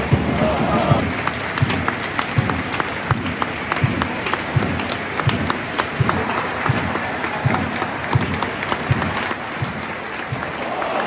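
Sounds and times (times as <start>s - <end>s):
steady thudding beat: 0.0s - 10.8s
crowd clapping in time: 0.0s - 11.0s
crowd din: 0.0s - 11.0s.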